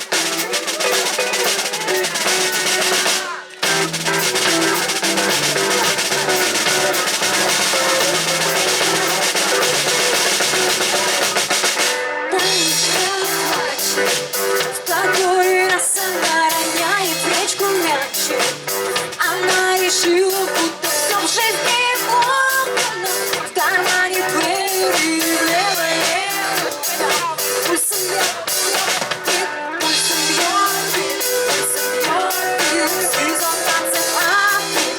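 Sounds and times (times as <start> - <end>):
live band playing instrumental: 0.0 - 34.9.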